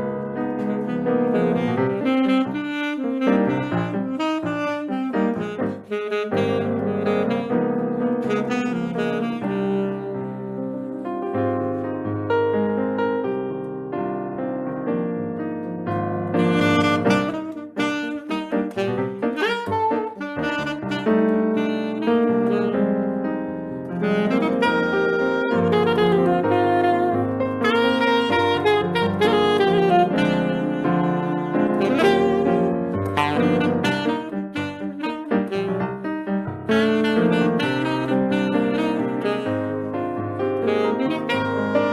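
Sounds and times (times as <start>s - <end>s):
saxophone melody: 0.0s - 13.5s, 15.9s - 41.9s
piano playing: 0.0s - 41.9s.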